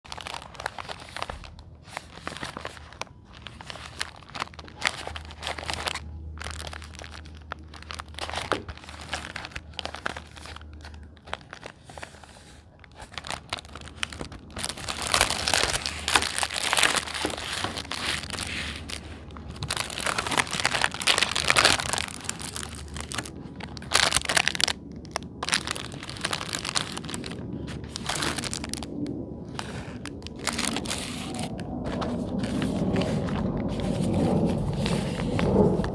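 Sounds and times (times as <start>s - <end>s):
plastic packaging crinkling: 0.0s - 35.9s
packaging tearing: 0.1s - 35.9s.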